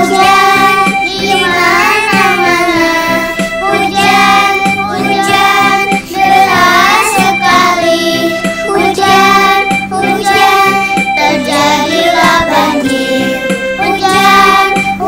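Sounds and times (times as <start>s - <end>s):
child singing: 0.0s - 15.0s
instrumental backing music: 0.0s - 15.0s.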